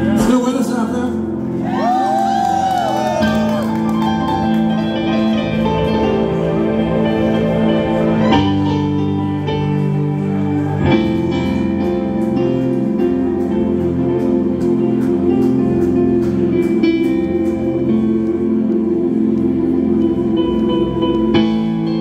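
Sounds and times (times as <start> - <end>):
sustained keyboard chords: 0.0 - 22.0.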